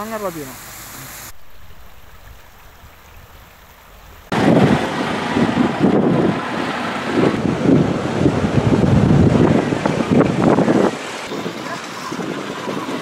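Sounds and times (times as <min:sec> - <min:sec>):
water rushing: 0:00.0 - 0:13.0
gusty wind buffeting microphone: 0:01.3 - 0:13.0.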